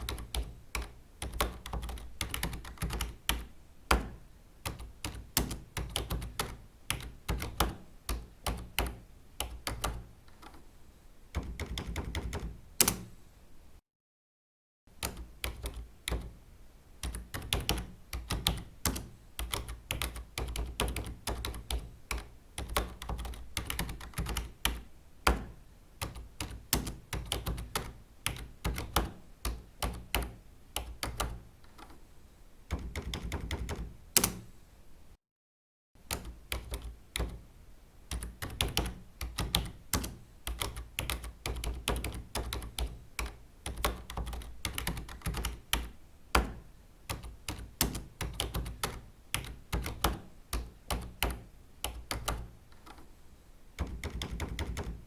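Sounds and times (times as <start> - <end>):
typing on computer keyboard: 0.0 - 10.6, 11.3 - 13.2, 15.0 - 16.4, 17.0 - 32.0, 32.7 - 34.5, 36.0 - 37.5, 38.1 - 53.1, 53.8 - 55.0.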